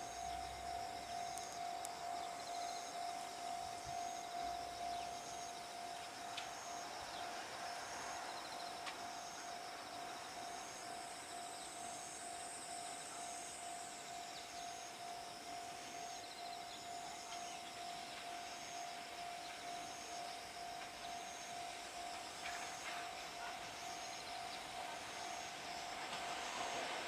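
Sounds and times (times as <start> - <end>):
insect chirps: 0.0 - 27.0.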